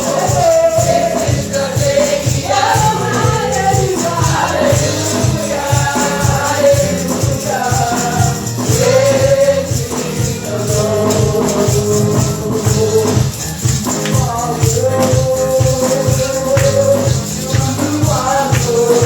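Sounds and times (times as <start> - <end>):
bass and drum beat: 0.0 - 19.0
tambourine: 0.0 - 19.0
voices singing gospel: 0.0 - 19.0.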